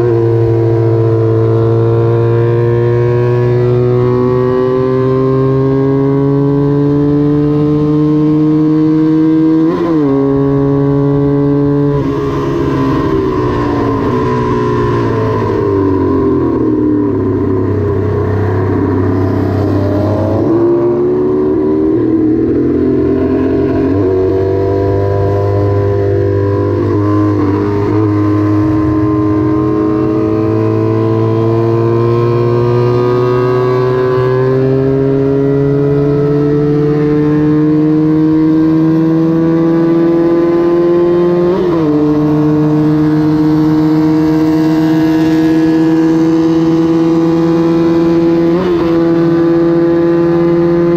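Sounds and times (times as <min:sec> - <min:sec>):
racing motorcycle engine revving: 0:00.0 - 0:50.9.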